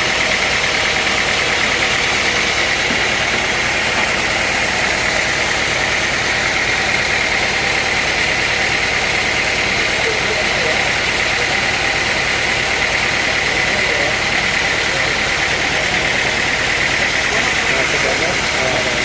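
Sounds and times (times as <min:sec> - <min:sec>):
high machine whine: 0:00.0 - 0:19.0
sawmill engine drone: 0:00.0 - 0:19.0.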